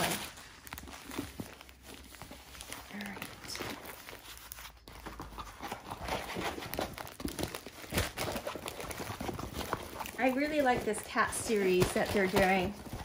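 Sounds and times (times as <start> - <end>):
canvas and plastic bags rustling: 0.0 - 13.0.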